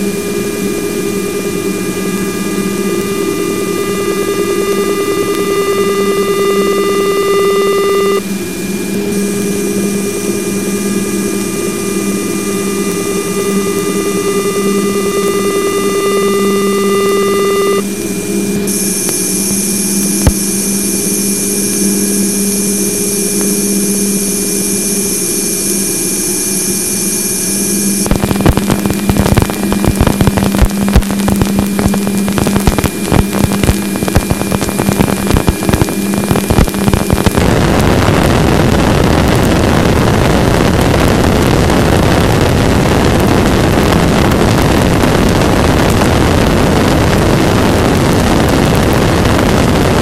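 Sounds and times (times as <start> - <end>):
steady interference tones: 0.0 - 50.0
dense crackling clicks: 0.6 - 50.0.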